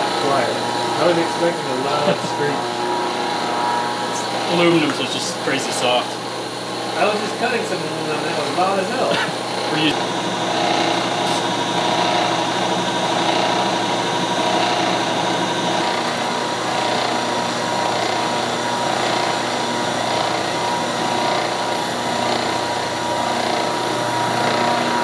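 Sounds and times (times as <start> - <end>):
milling machine cutting metal: 0.0 - 25.0.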